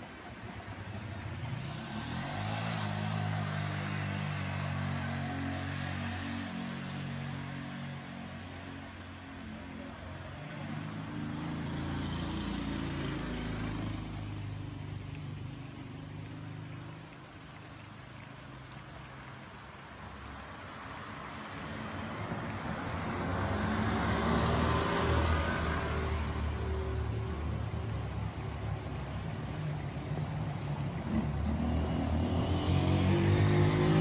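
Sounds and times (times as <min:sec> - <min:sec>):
vehicles passing on street: 0:00.0 - 0:34.0.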